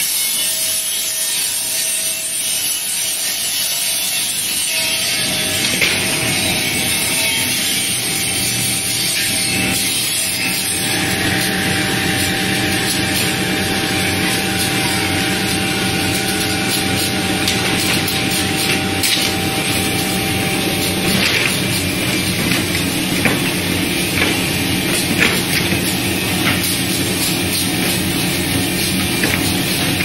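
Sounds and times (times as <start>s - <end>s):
motor and conveyor drone: 0.0s - 30.0s
steady machine whine: 5.0s - 30.0s.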